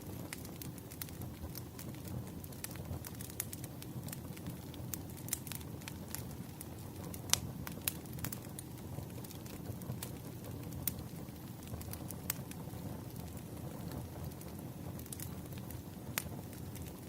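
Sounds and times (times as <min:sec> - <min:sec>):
fire crackles and pops: 0:00.0 - 0:17.0
flames rumbling: 0:00.0 - 0:17.0.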